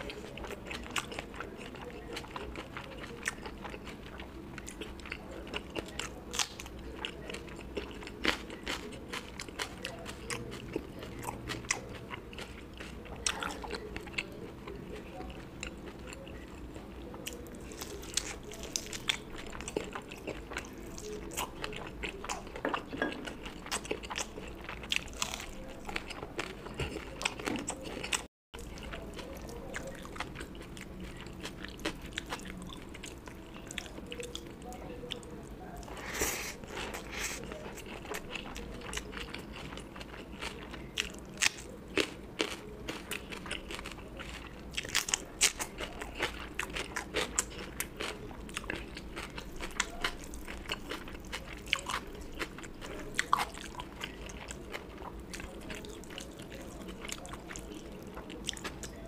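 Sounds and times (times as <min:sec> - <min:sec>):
close chewing of food: 0:00.0 - 0:59.0.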